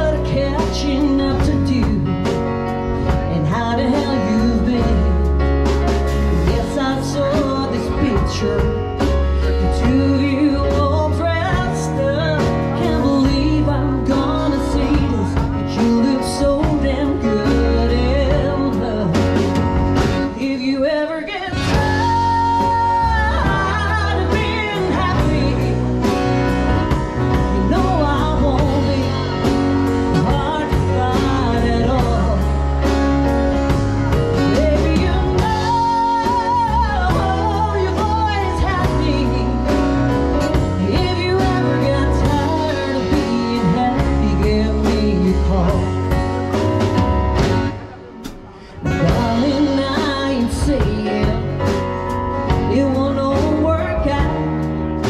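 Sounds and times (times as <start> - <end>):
woman singing: 0.0 - 47.0, 48.8 - 55.0
country band accompaniment: 0.0 - 55.0.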